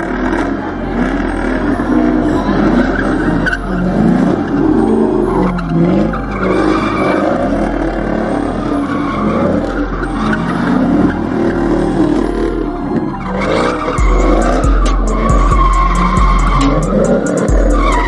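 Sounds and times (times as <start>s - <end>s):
car engine revving: 0.0s - 18.0s
tires squealing and skidding: 0.0s - 18.0s.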